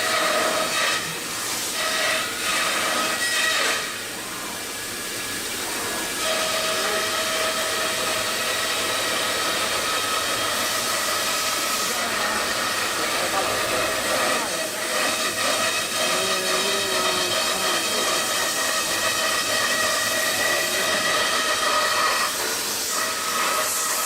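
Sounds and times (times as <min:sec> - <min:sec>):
router spindle hiss and whine: 0:00.0 - 0:24.0.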